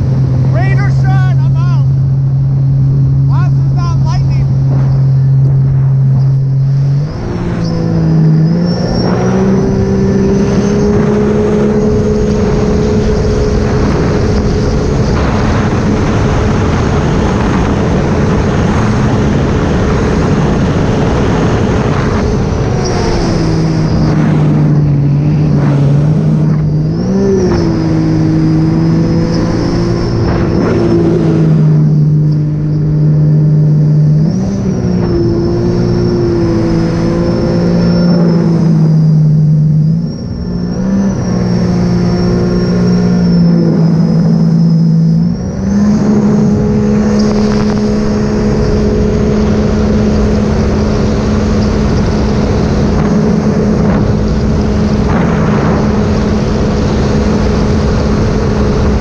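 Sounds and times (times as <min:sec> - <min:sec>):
jet ski engine running: 0:00.0 - 0:59.0
water and wind rushing: 0:00.0 - 0:59.0.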